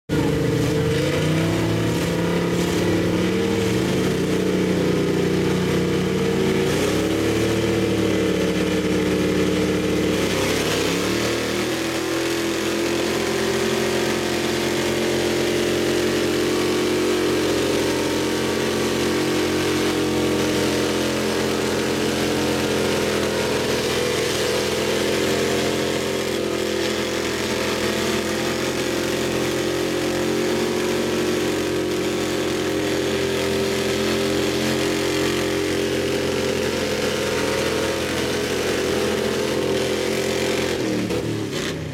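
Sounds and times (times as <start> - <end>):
pickup truck engine revving: 0.1 - 41.9
wheels spinning in dirt: 0.1 - 41.9.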